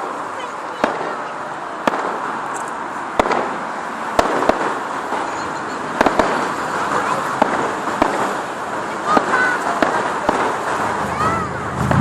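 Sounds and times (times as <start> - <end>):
fireworks bangs: 0.0 - 12.0
outdoor din: 0.0 - 12.0.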